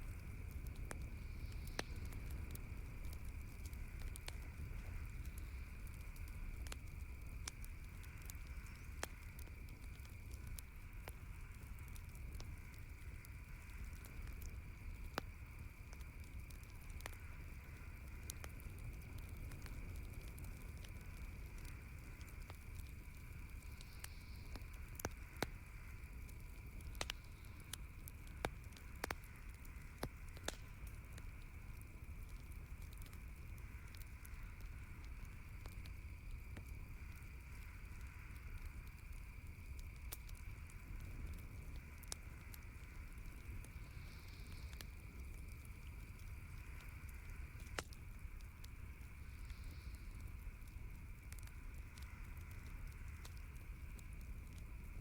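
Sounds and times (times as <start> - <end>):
low rumble and hiss: 0.0 - 55.0
wood fire crackling: 0.0 - 55.0.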